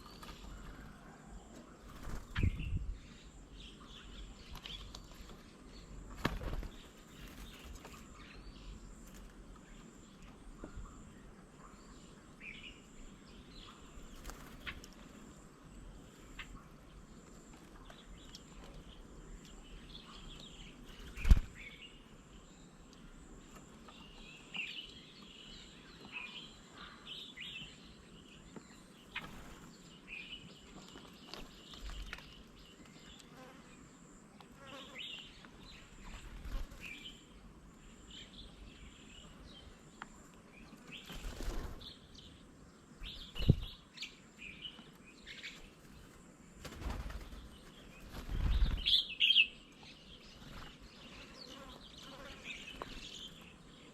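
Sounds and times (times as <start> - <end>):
small birds chirping: 0.0 - 53.9.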